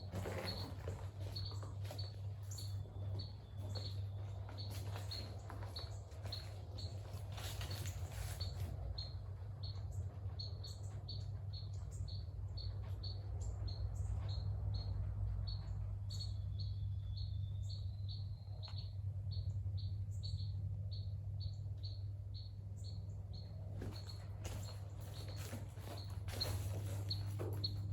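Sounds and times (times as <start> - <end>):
constant low hum: 0.0 - 27.9.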